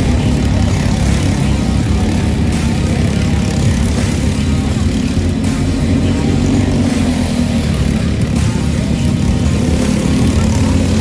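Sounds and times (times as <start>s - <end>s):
kart engine droning: 0.0s - 11.0s.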